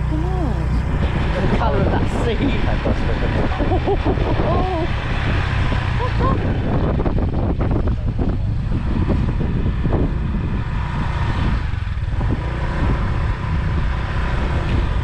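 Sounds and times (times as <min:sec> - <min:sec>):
motorbike engine rumbling: 0:00.0 - 0:15.0.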